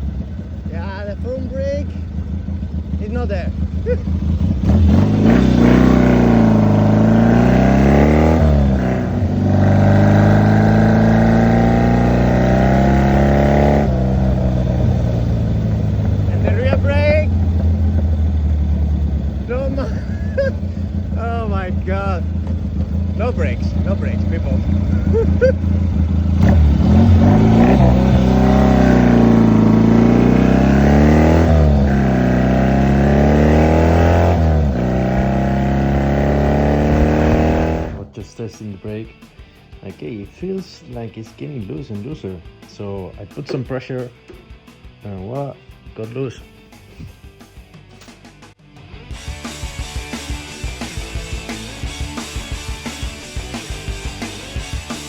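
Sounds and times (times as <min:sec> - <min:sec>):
motorcycle engine accelerating: 0:00.0 - 0:38.2, 0:49.1 - 0:55.0.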